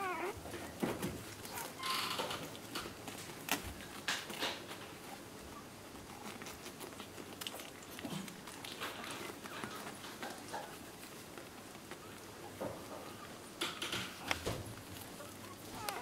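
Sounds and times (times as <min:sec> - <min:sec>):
puppies sucking and smacking: 0:00.0 - 0:16.0.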